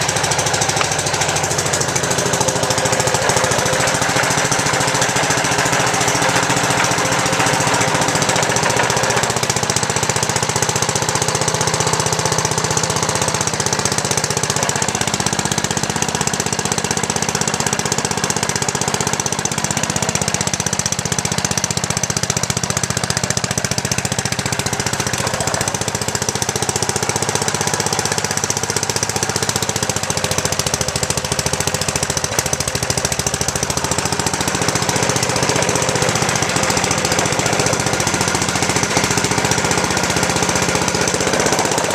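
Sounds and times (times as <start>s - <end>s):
single-cylinder engine running: 0.0s - 41.9s.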